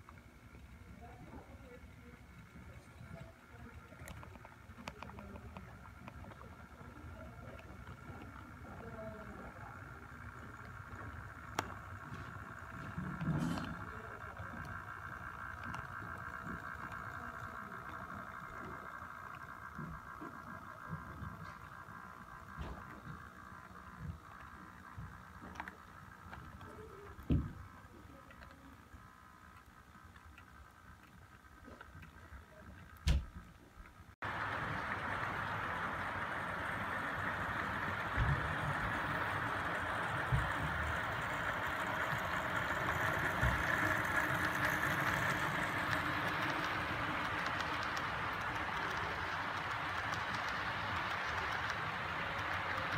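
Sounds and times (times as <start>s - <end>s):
model train motor whine: 0.0s - 52.9s
wheels rumbling on track: 0.7s - 29.4s, 34.2s - 52.9s
faint clicks: 2.0s - 52.9s.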